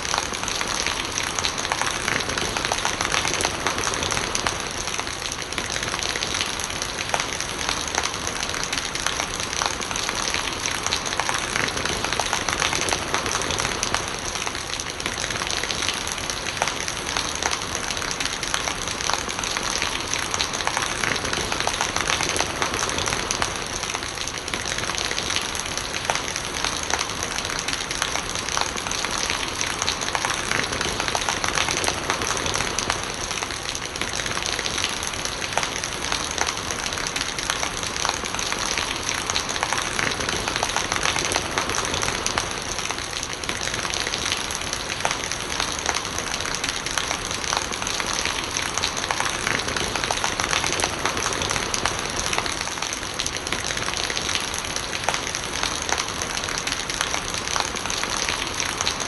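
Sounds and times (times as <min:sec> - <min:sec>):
heavy rain pattering: 0:00.0 - 0:59.0
rainwater running and gurgling: 0:00.0 - 0:59.0.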